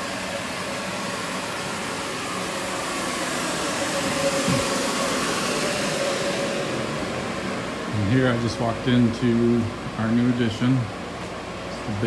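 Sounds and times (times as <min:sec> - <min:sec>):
dehumidifier fan whir and hum: 0:00.0 - 0:12.0.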